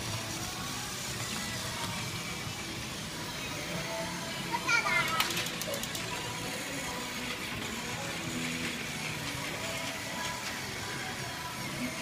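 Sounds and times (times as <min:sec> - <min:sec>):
background music: 0:00.0 - 0:12.0
hubbub of indoor play area: 0:00.0 - 0:12.0.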